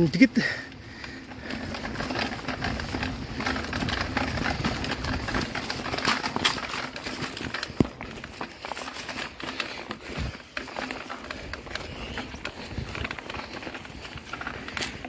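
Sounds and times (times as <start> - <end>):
bike rattling: 0.0 - 15.0
bike tyres crunching on stony dirt: 0.0 - 15.0.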